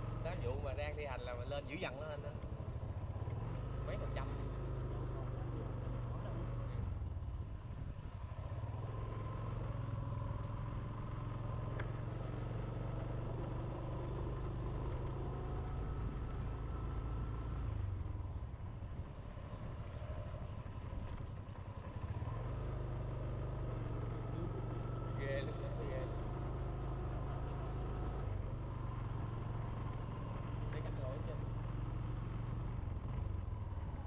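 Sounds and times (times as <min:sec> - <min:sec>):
small motorbike engine running: 0:01.4 - 0:34.0.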